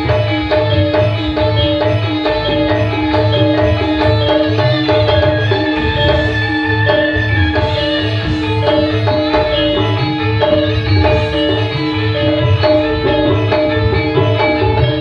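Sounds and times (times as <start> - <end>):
hand drums beat: 0.0 - 15.0
melody of held notes: 0.0 - 15.0
pulsing bass: 0.0 - 15.0.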